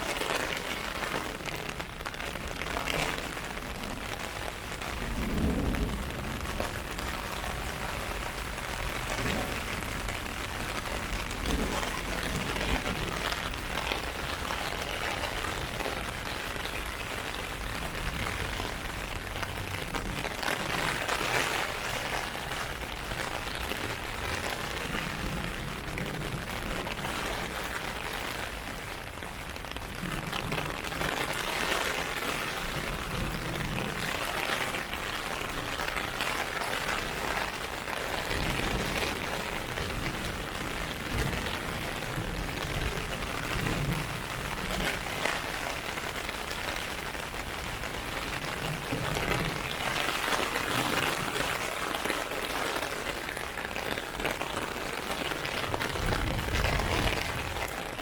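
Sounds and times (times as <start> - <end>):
heavy rain on umbrella: 0.0 - 58.0.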